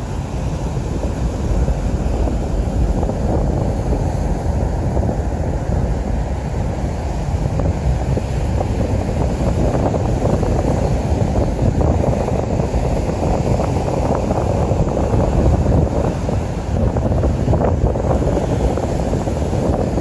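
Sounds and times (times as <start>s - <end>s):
distant rocket rumble: 0.0s - 20.0s
wind buffeting microphone: 0.0s - 20.0s.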